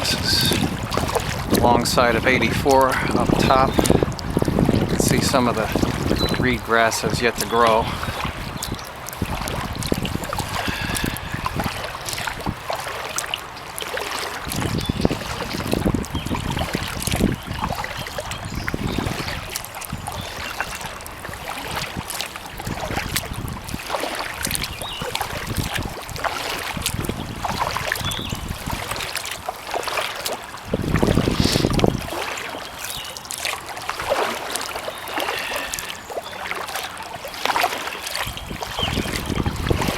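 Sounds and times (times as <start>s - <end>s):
wind rumbling on microphone: 0.0s - 29.7s, 30.3s - 33.0s, 38.1s - 39.9s
paddle splashing in water: 0.0s - 39.9s
water trickling: 0.0s - 39.9s.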